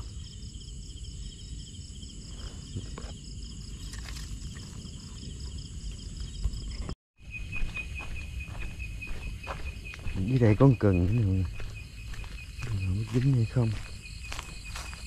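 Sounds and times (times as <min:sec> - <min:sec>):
crickets chirping in trills: 0:00.0 - 0:15.0
lower-pitched insect trill: 0:00.0 - 0:15.0.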